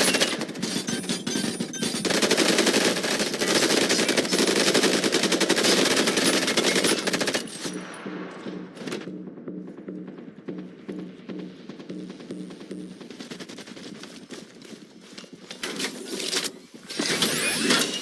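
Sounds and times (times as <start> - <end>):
rapid automatic gunfire: 0.0 - 15.0.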